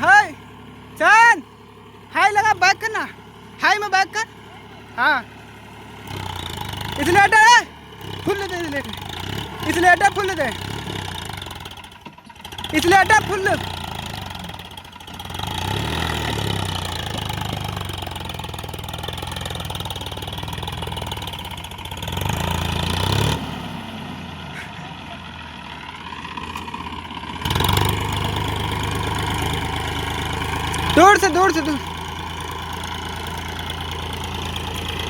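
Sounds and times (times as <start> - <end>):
tractor diesel engine working hard: 0.0 - 35.0.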